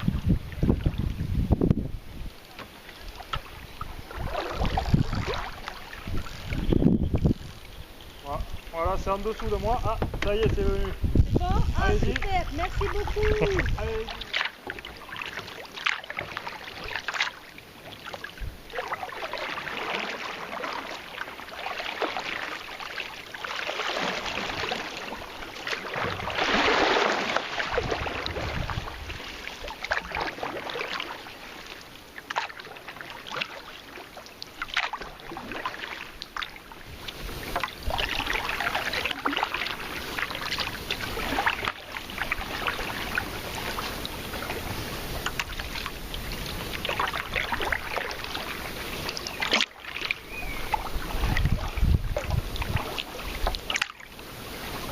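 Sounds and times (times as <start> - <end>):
paddle splashing in water: 0.0 - 54.9.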